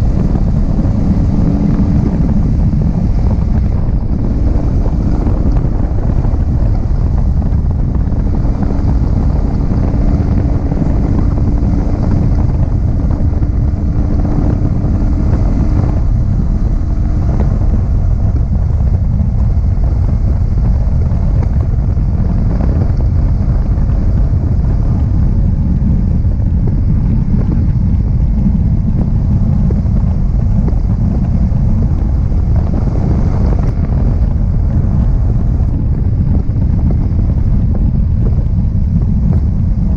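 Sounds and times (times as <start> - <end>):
motorcycle engine running: 0.0 - 39.9
wind buffeting camera: 0.0 - 39.9.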